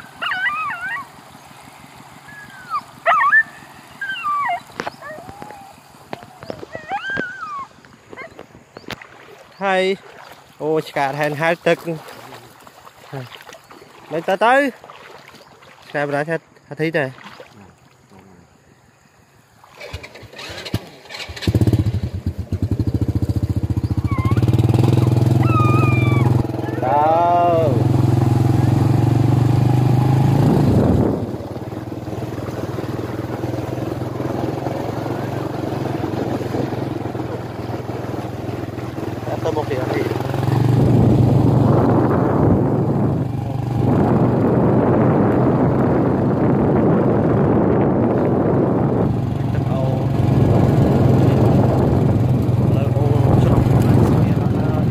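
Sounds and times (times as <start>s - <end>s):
motorcycle engine starting and running: 0.0s - 9.0s, 19.8s - 54.9s.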